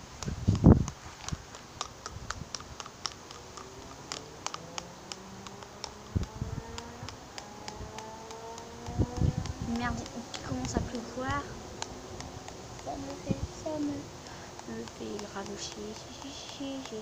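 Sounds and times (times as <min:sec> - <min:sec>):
raindrops ticking on plastic: 0:00.0 - 0:17.0.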